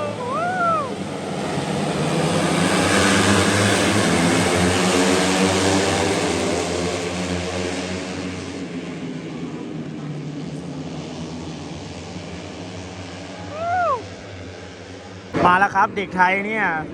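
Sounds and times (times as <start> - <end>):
racing motorcycles passing: 0.0 - 16.9.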